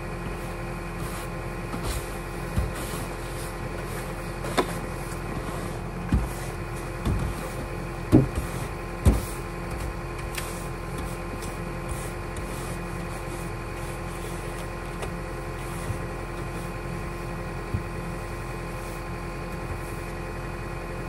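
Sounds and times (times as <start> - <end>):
snow brush sweeping snow: 0.0 - 20.3
brush knocking: 1.0 - 19.0.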